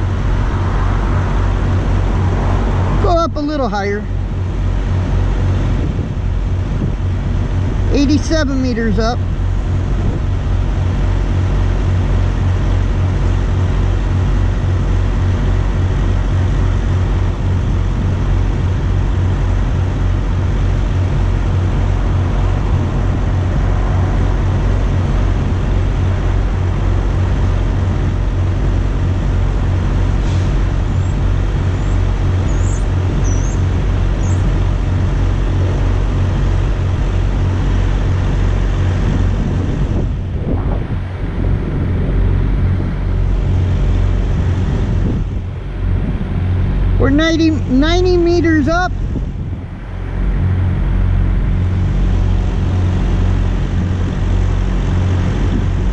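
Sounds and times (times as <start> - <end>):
constant hum: 0.0 - 55.9
road traffic rumble: 0.0 - 55.9.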